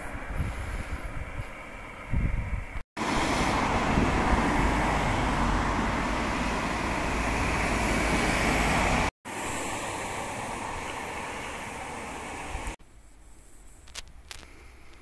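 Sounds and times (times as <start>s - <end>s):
road traffic passing: 0.0s - 12.8s.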